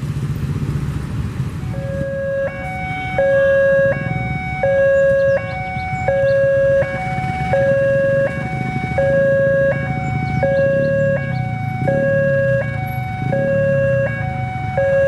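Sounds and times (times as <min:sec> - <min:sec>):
car and motorcycle engines rumbling: 0:00.0 - 0:15.0
level crossing two-note alarm: 0:01.7 - 0:15.0.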